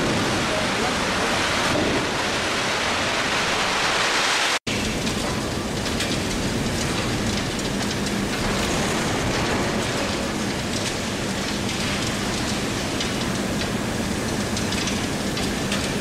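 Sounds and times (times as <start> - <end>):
industrial rumbling din: 0.0 - 16.0.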